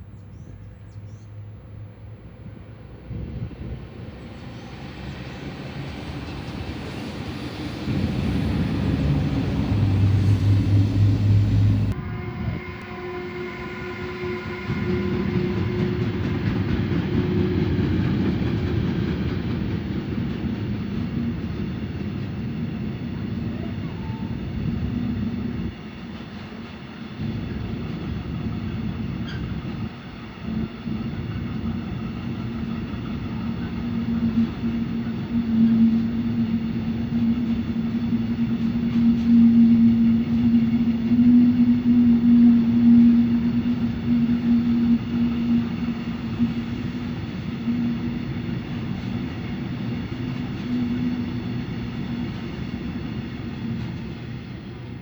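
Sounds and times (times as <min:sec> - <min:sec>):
train passing close by: 0:00.0 - 0:55.0.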